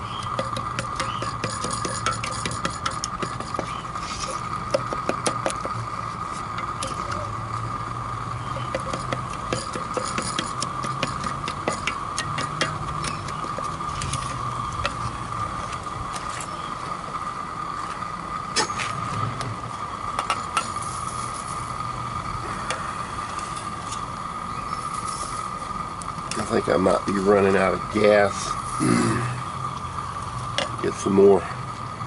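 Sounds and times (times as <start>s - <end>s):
burner hissing: 0.0s - 32.0s.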